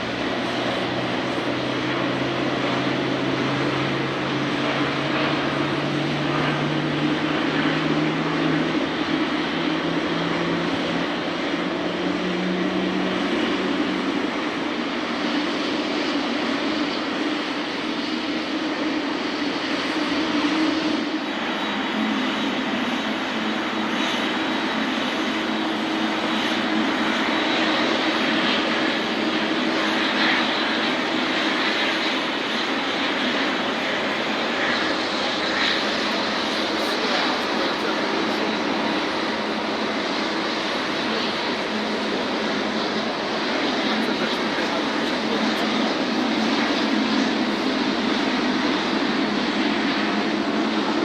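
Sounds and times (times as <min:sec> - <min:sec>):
jet engines droning: 0:00.0 - 0:51.0.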